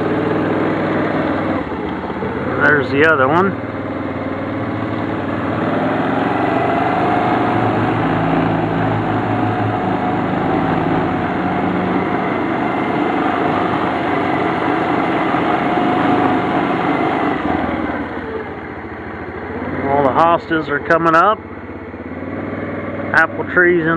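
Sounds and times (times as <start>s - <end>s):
atv engine running: 0.0s - 23.9s.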